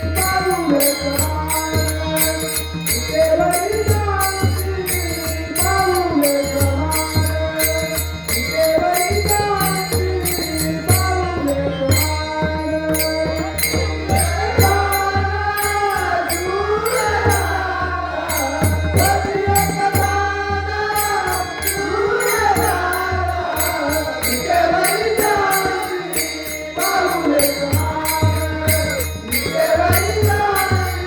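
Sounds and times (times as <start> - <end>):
hand cymbals clashing: 0.0 - 17.6, 18.3 - 31.0
man singing devotional song: 0.0 - 31.0.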